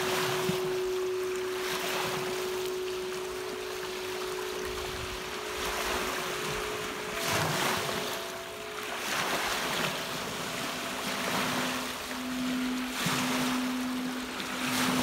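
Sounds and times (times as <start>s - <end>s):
crystal singing bowls ringing: 0.0s - 15.0s
lake waves breaking on shore: 0.0s - 15.0s.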